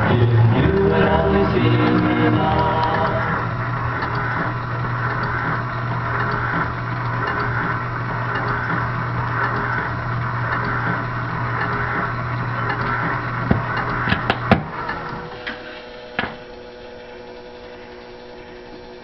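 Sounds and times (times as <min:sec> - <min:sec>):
mechanical whirring: 0:00.0 - 0:19.0
motor hum: 0:00.0 - 0:19.0.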